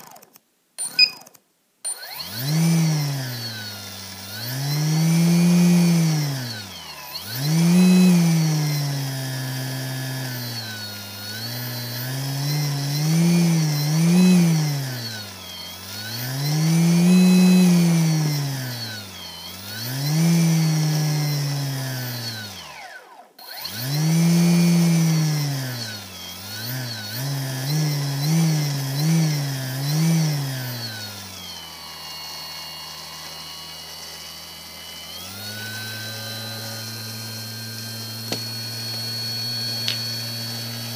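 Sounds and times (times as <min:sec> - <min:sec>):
electric motor whine: 0:02.0 - 0:40.9.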